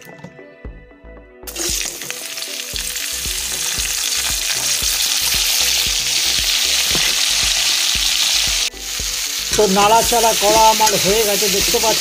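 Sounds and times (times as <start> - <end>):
vegetables sizzling in hot oil: 1.5 - 12.0.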